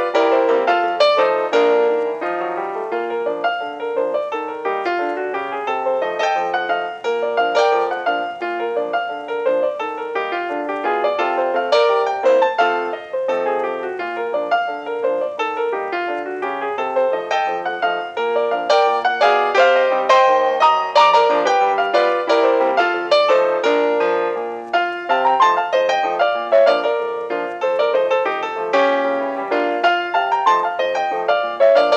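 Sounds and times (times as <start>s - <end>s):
lively piano music: 0.0s - 31.9s.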